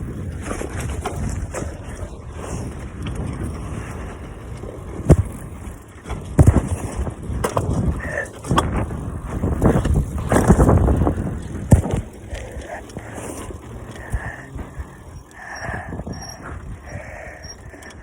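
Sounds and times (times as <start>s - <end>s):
bicycle rumble: 0.0s - 18.0s
bike knocking and rattling: 0.0s - 18.0s.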